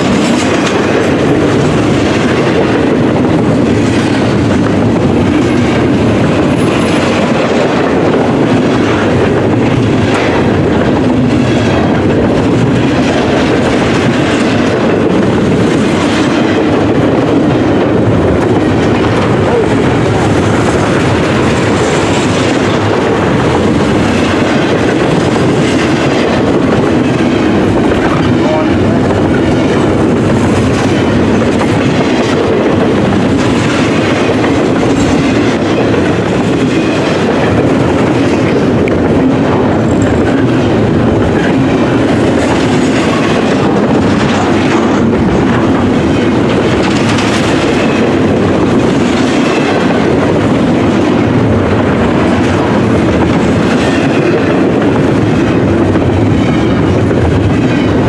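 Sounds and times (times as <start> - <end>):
freight train rumbling past: 0.0 - 58.0
wheels clicking over rails: 0.0 - 58.0.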